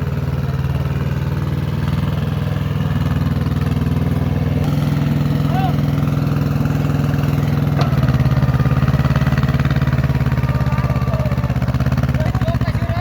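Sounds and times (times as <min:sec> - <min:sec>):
tractor diesel engine pulsing: 0:00.0 - 0:13.0.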